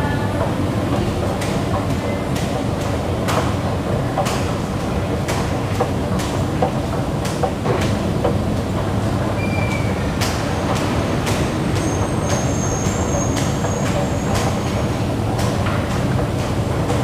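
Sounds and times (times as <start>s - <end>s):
escalator steps clacking: 0.4s - 17.0s.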